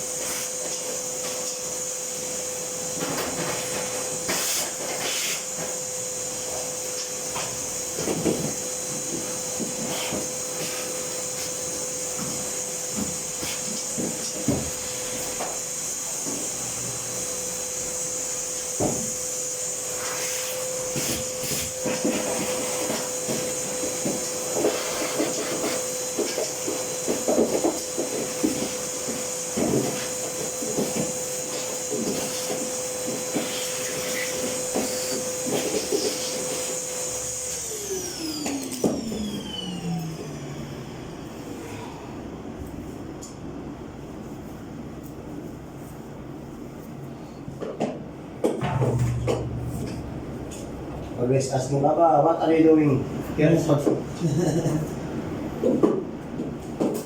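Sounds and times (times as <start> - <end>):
dryer motor whine: 0.0 - 57.0.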